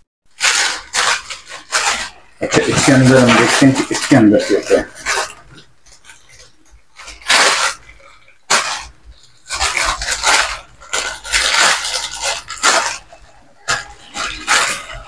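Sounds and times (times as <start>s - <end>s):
plastic bag and papers crinkling: 0.3s - 15.0s.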